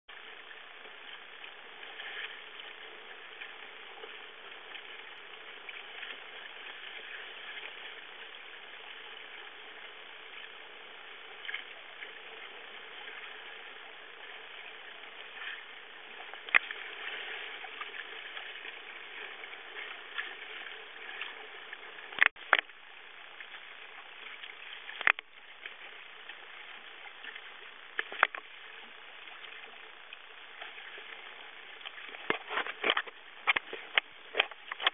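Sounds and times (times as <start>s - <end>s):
water rushing along kayak hull: 0.1s - 34.9s.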